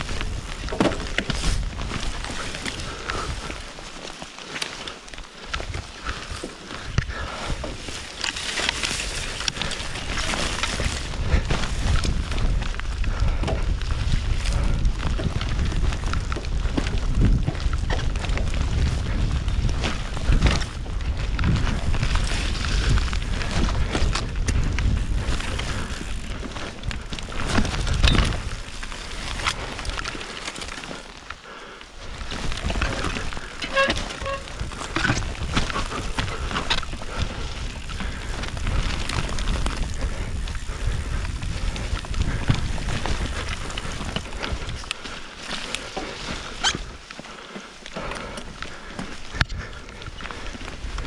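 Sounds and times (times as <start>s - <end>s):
bike clattering over bumps: 0.0s - 31.2s, 32.0s - 51.0s
bike tyre noise: 0.0s - 51.0s
wind rumbling on microphone: 0.0s - 51.0s.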